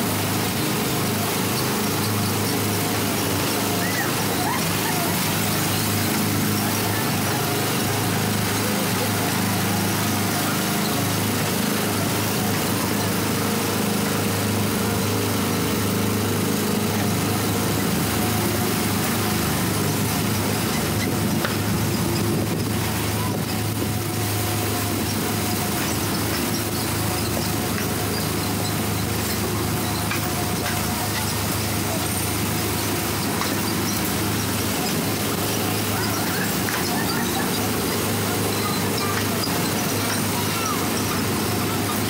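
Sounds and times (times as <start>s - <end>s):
small gasoline engine running: 0.0s - 42.0s.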